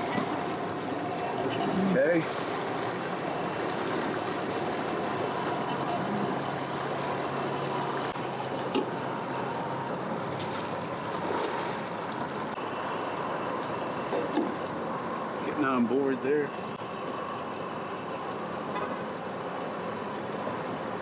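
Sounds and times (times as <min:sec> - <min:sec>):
boat motor running: 0:00.0 - 0:21.0
water noise: 0:00.0 - 0:21.0
wind: 0:00.0 - 0:21.0.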